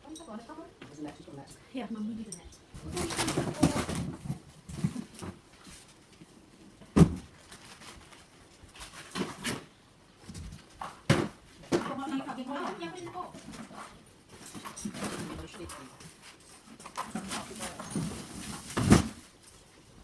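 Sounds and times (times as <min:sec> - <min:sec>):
rattles and rustling: 0:02.4 - 0:06.2, 0:06.8 - 0:19.9.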